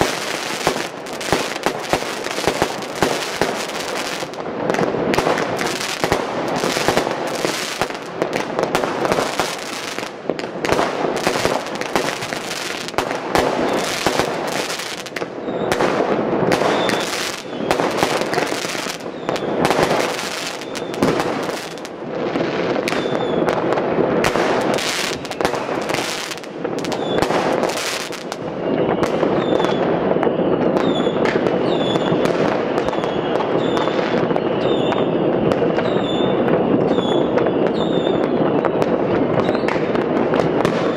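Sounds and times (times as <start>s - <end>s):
fireworks and firecrackers banging: 0.0s - 40.9s.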